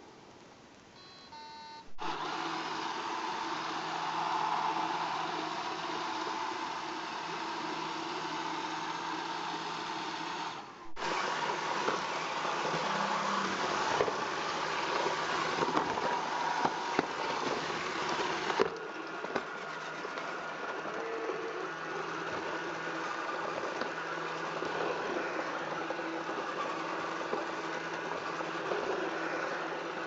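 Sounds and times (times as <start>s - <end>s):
robot vacuum motor whir: 2.0s - 30.0s.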